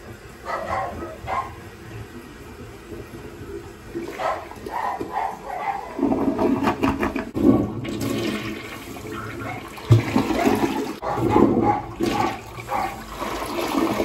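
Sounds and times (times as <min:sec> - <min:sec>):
toilet bowl draining: 0:00.0 - 0:14.0
water sloshing and gurgling in toilet: 0:01.1 - 0:14.0.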